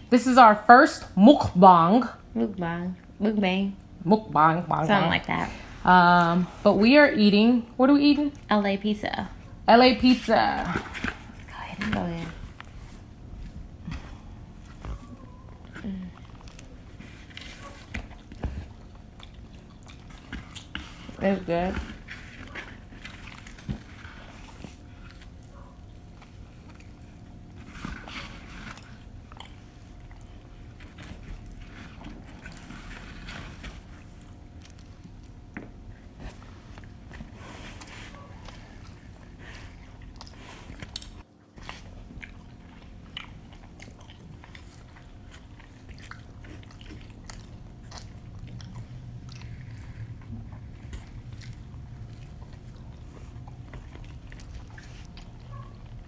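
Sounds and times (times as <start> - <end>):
faint steady hum: 0.0 - 56.0
chewing and biting food: 9.3 - 56.0.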